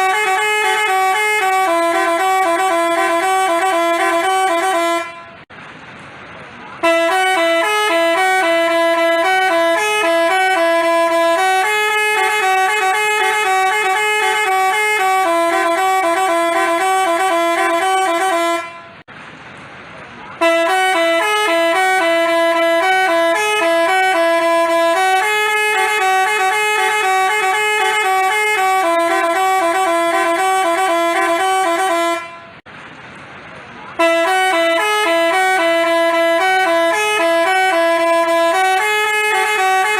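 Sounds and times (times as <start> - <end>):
musical bus horn melody: 0.0 - 5.5, 6.7 - 19.1, 20.4 - 32.7, 34.0 - 39.9.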